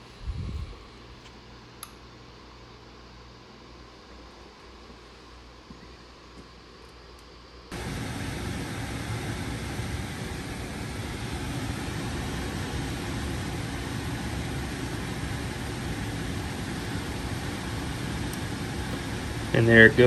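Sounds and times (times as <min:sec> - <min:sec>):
blower rushing air with hum: 0:00.0 - 0:05.7, 0:07.4 - 0:20.0.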